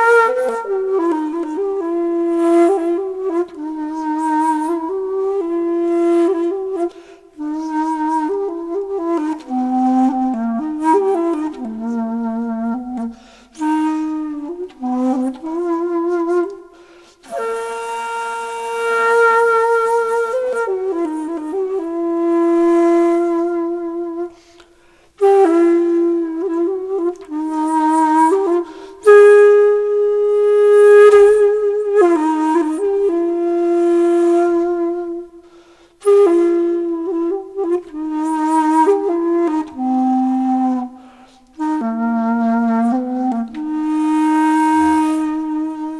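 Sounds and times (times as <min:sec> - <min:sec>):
slow flute-like melody: 0:00.0 - 0:45.9.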